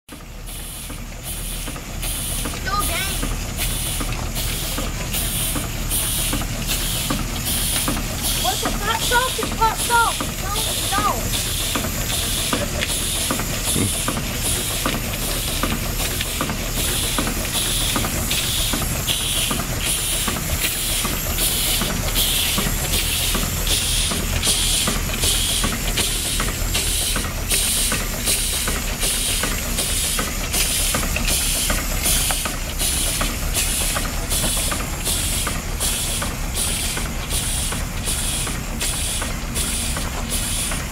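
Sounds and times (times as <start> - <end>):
steam exhaust chuffs: 0.1 - 40.9
steam hissing: 0.4 - 40.9.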